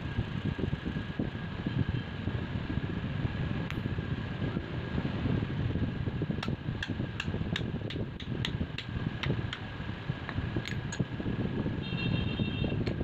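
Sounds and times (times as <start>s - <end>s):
fan droning: 0.0s - 13.0s.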